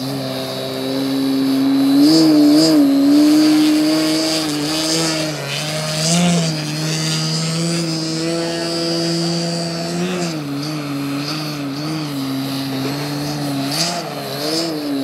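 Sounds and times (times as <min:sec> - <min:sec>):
propeller drone with motor whine: 0:00.0 - 0:15.0.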